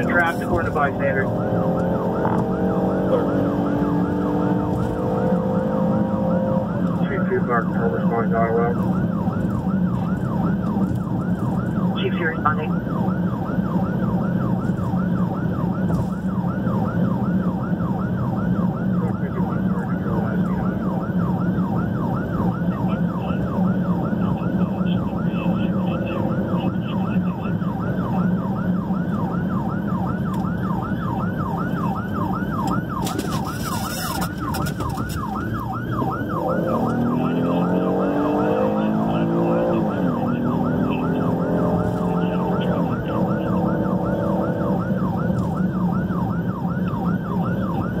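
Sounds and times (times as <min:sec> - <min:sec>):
engine and road drone: 0:00.0 - 0:48.0
siren rising and falling slowly: 0:00.0 - 0:48.0
siren yelping: 0:00.0 - 0:48.0.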